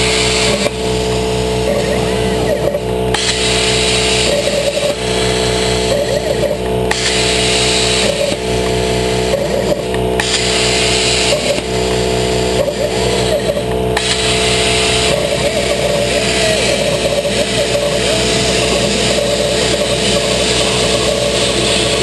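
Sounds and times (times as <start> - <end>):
gliding whines of gantry drive: 0.0 - 22.0
plasma arc hissing: 0.0 - 22.0
steady machine hum: 0.0 - 22.0.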